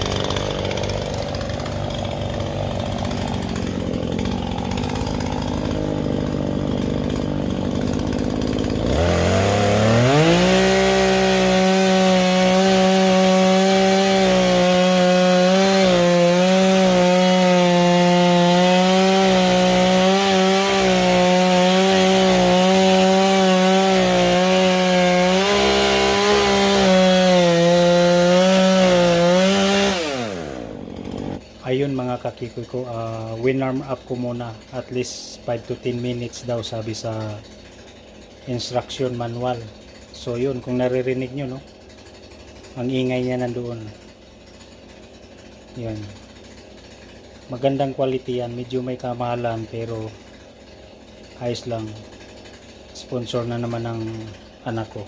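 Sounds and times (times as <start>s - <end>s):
chainsaw engine idling and revving: 0.0s - 55.0s.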